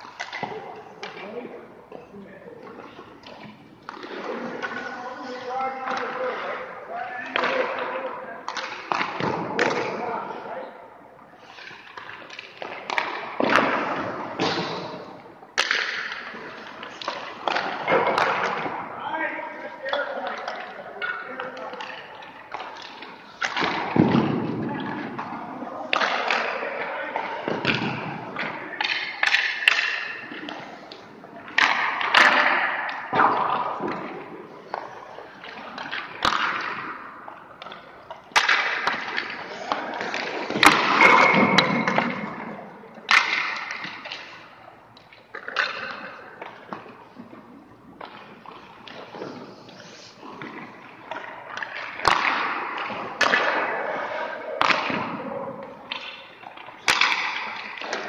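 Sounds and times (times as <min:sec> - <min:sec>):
pucks cracking on sticks: 0:00.0 - 0:10.3, 0:11.4 - 0:19.2, 0:19.8 - 0:58.0.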